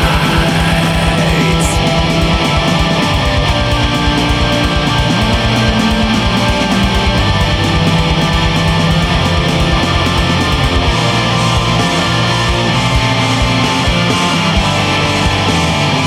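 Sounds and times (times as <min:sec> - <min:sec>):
pounding low drums: 0:00.0 - 0:15.8
distorted electric guitars: 0:00.0 - 0:16.0.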